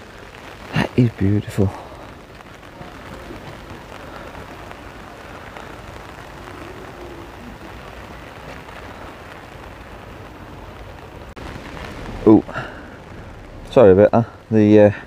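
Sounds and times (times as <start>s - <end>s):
light rain on wet ground: 0.0s - 15.0s.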